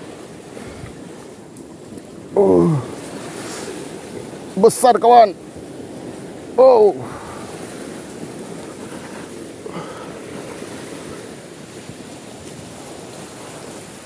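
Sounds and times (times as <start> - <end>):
water at shore: 0.0 - 14.0
wind on microphone: 0.0 - 14.0.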